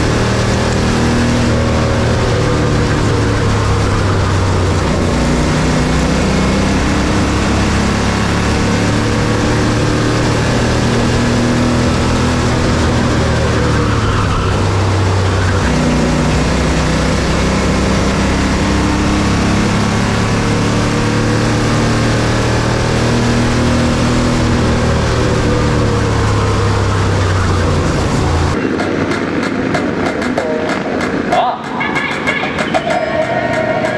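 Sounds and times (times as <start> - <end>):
race car engine running: 0.0 - 33.9.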